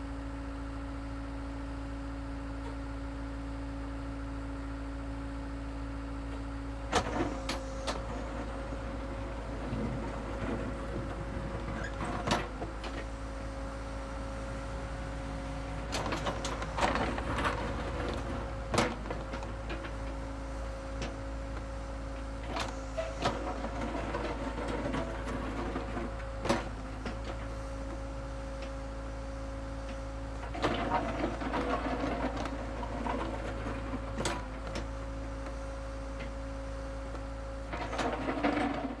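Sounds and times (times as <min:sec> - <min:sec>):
construction machine engine hum: 0:00.0 - 0:39.0
rattling and scraping of dirt: 0:06.9 - 0:39.0.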